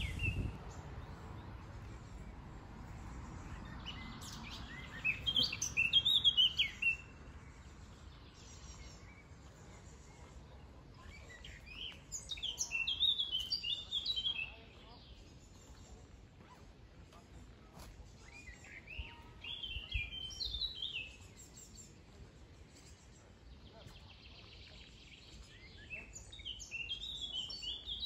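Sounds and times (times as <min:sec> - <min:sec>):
faint background noise: 0:00.0 - 0:28.0
songbird chirping: 0:00.0 - 0:28.0.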